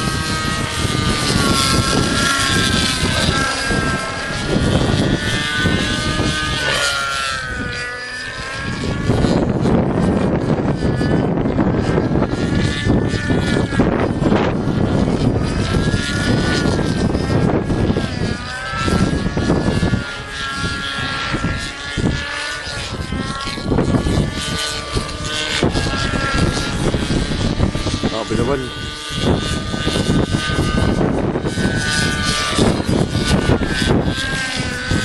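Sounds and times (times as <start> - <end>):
model helicopter engine whine: 0.0 - 35.0
wind rumble on microphone: 0.0 - 35.0.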